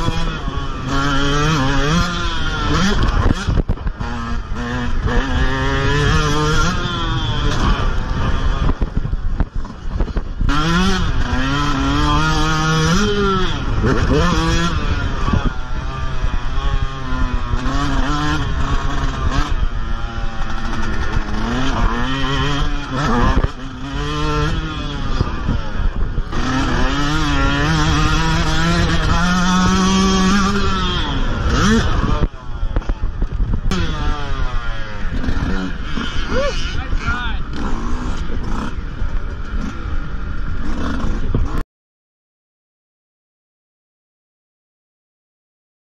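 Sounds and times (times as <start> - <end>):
dirt bike engine revving: 0.0 - 41.6.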